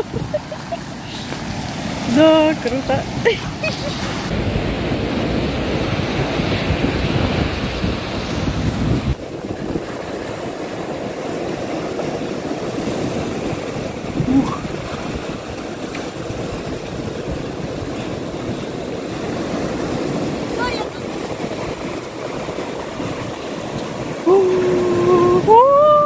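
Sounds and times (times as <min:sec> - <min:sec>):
surf breaking on pebble beach: 0:00.0 - 0:24.3
wind rumbling on microphone: 0:00.0 - 0:26.0.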